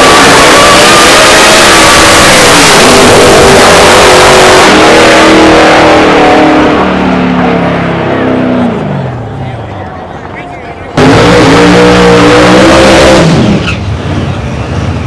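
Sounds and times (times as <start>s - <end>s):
drag cars accelerating hard: 0.0s - 9.2s, 11.0s - 14.9s.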